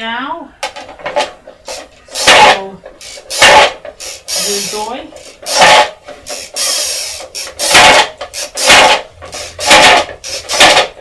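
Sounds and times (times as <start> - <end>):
toy game wheel spinning: 1.7 - 11.0.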